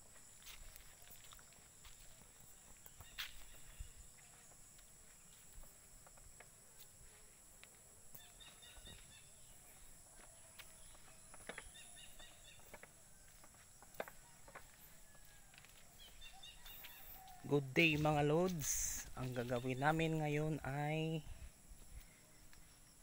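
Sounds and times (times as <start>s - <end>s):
footsteps on dirt path: 0.0s - 23.0s
insects droning: 0.0s - 23.0s.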